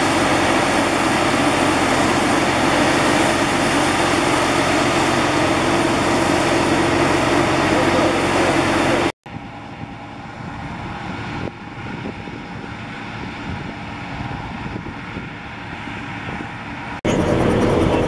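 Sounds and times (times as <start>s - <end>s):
combine harvester running: 0.0s - 18.0s
distant engine hum: 0.0s - 18.0s.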